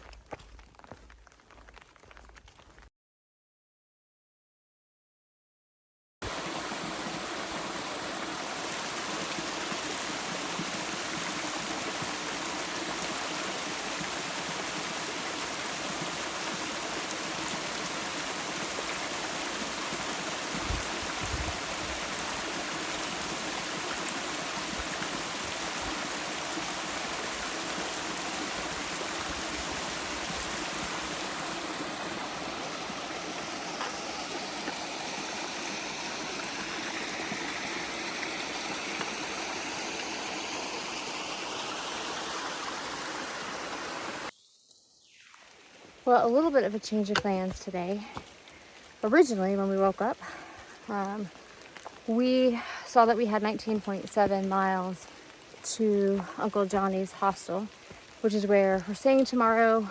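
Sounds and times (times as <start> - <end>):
stream rushing over rocks: 6.2 - 44.3, 45.6 - 59.9.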